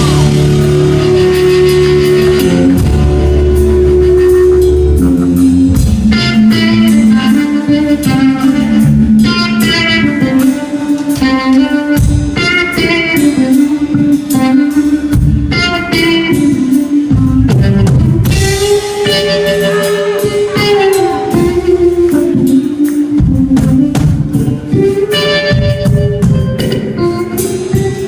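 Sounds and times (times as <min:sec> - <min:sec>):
drum kit: 0:00.0 - 0:28.0
electric guitar sustained notes: 0:00.0 - 0:28.0.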